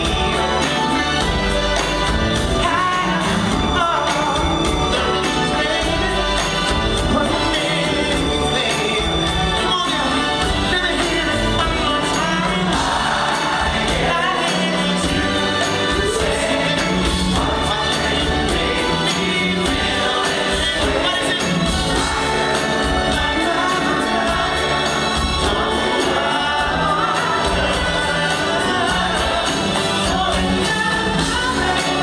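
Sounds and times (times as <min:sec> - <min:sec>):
live band with drum beat: 0:00.0 - 0:32.0
male vocal group singing: 0:00.0 - 0:32.0.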